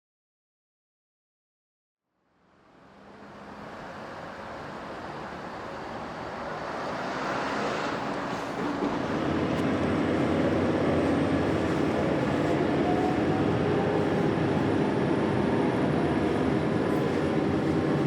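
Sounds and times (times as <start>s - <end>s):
train running noise: 3.2s - 18.0s.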